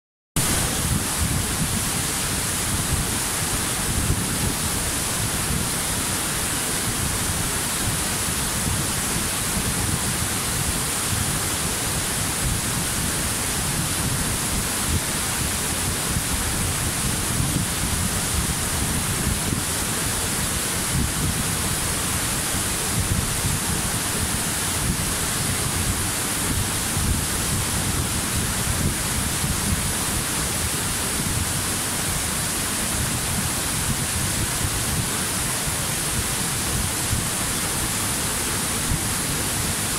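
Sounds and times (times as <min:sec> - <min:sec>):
waterfall rushing: 0:00.4 - 0:39.9.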